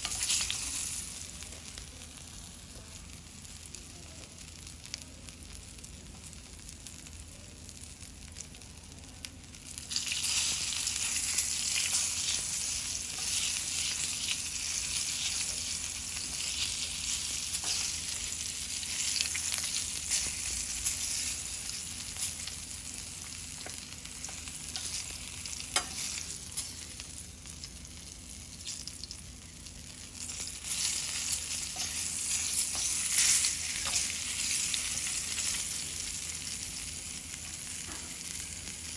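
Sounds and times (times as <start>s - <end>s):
fish sizzling in frying pan: 0.0s - 38.9s.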